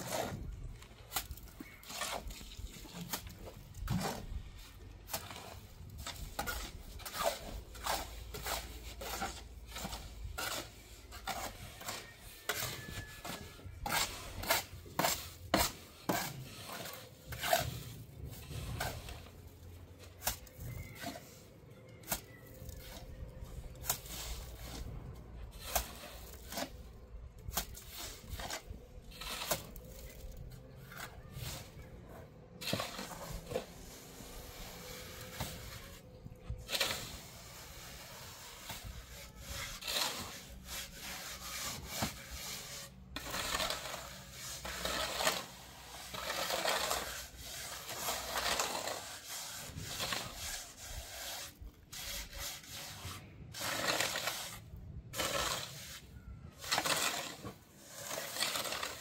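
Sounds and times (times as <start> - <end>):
rubbing and scraping: 0.0 - 59.0.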